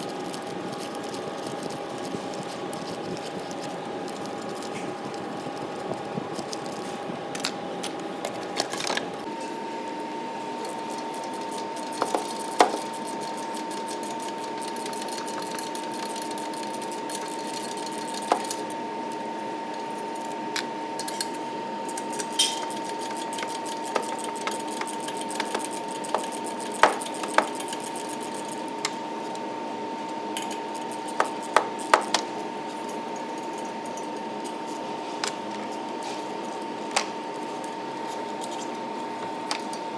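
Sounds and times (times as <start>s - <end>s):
steady high hum: 0.0s - 39.9s.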